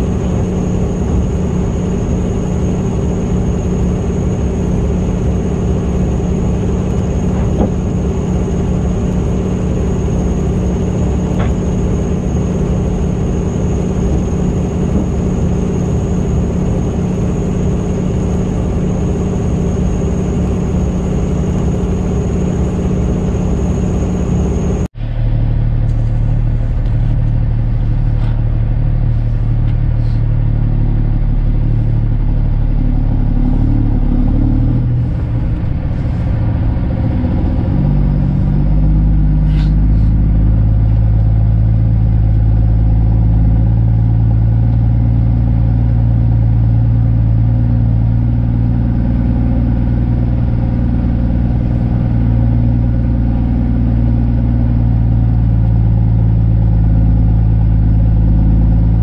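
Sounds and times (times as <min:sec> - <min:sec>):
truck diesel engine pulling: 0:00.0 - 0:59.0.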